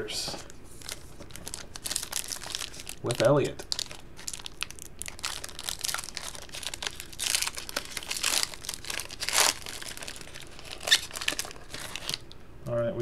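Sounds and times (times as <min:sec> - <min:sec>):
foil wrapping crinkling: 0:00.4 - 0:12.4.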